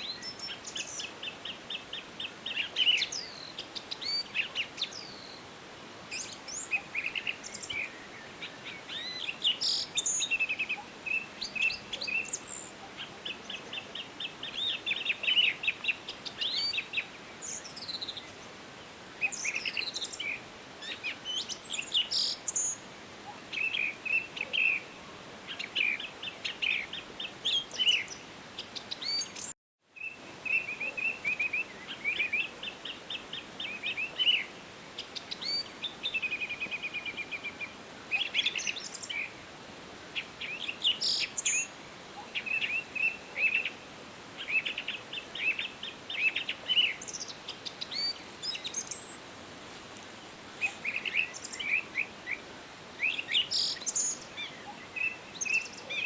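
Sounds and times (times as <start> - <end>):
forest birds singing: 0.0 - 5.5, 6.1 - 39.5, 40.1 - 56.0
faint steady hiss: 0.0 - 56.0.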